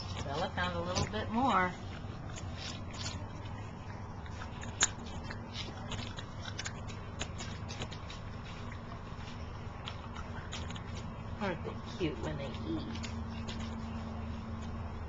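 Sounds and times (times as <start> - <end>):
puppies chewing treats: 0.0 - 15.0.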